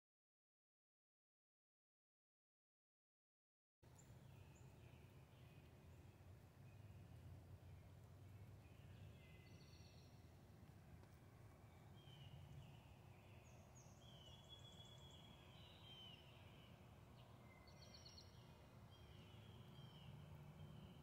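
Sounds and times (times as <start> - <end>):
faint bird chirps and trills: 3.9 - 21.0.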